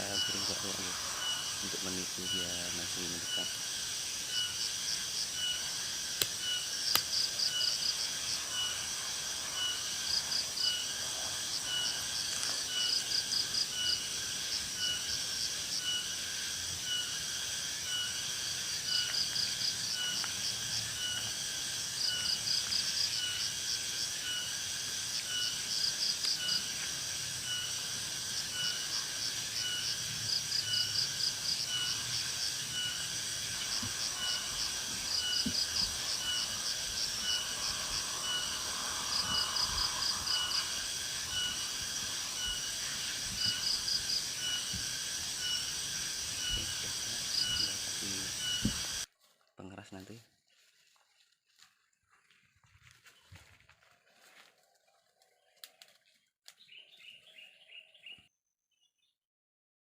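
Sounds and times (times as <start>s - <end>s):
insects chorus: 0.0s - 51.0s, 52.2s - 58.2s.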